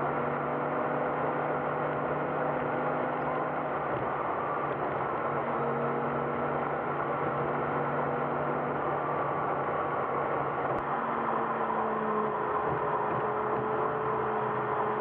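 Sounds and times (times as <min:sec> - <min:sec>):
sped-up car engine drone: 0:00.0 - 0:15.0.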